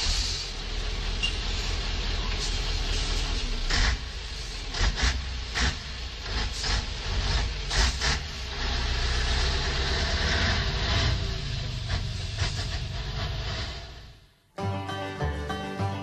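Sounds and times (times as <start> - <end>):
diesel truck engine running: 0.0 - 14.5.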